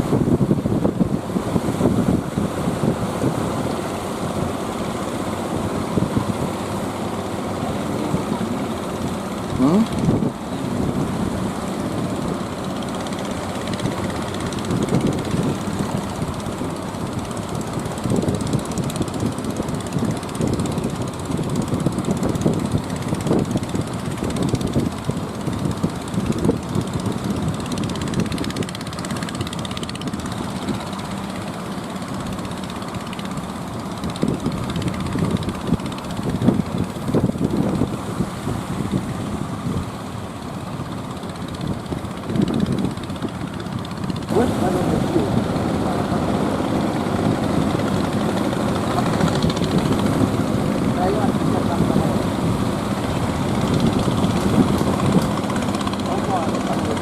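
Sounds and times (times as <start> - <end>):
motor boat engine running: 0.0 - 57.0
wind rumbling on microphone: 0.0 - 57.0.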